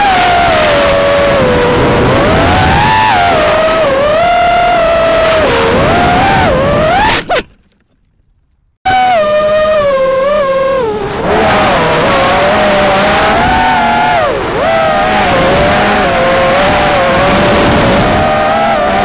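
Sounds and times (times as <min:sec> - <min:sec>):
rushing wind: 0:00.0 - 0:07.6, 0:08.9 - 0:19.0
drone motors whining: 0:00.0 - 0:07.8, 0:08.9 - 0:19.0.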